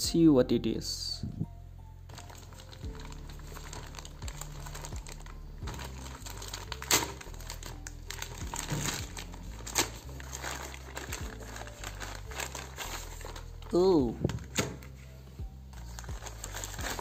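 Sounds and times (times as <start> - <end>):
plastic bag ripping: 2.1 - 15.0, 15.8 - 17.0
plastic mailer bag crinkling: 2.1 - 15.0, 15.8 - 17.0.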